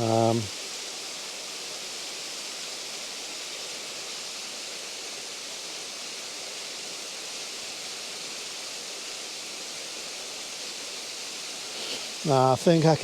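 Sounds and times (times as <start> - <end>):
small waterfall splashing over rocks: 0.0 - 13.0.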